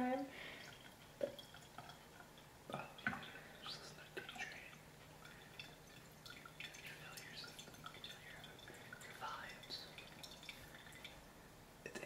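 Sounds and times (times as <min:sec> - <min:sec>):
tea dripping into mug: 0:00.4 - 0:11.3.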